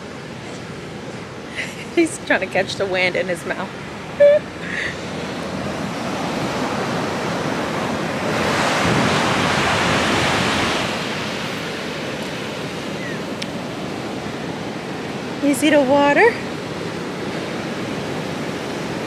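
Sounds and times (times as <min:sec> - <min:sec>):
waves washing ashore: 0:00.0 - 0:19.0.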